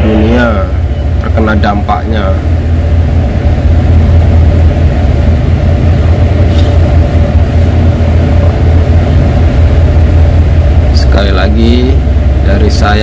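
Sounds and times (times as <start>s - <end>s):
faint steady hum: 0.0s - 13.0s
ship engine low rumble: 0.0s - 13.0s.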